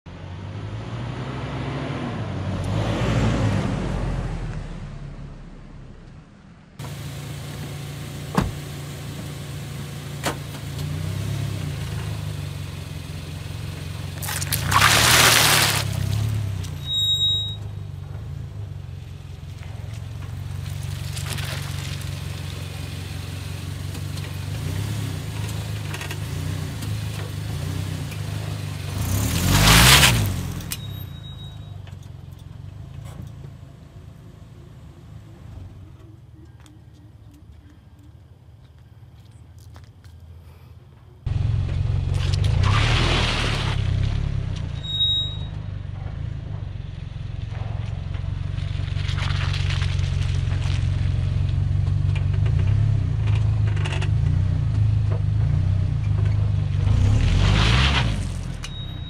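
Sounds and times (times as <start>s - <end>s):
car engine humming: 0.0s - 59.0s
engine and tyre noise surge: 0.0s - 59.0s.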